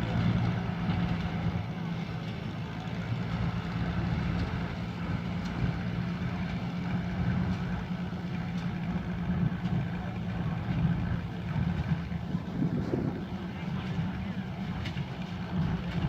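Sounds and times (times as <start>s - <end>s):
baler engine running: 0.0s - 16.0s.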